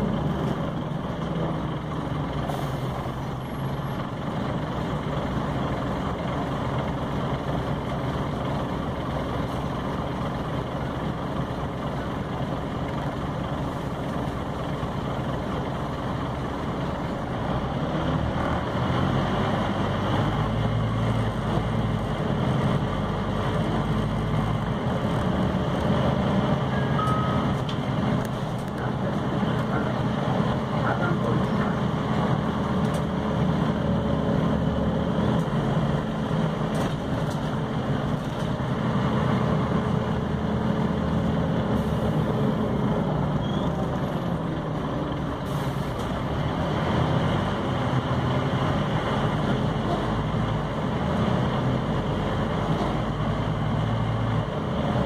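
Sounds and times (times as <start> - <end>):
bus diesel engine droning: 0.0 - 55.0
road and body noise: 0.0 - 55.0.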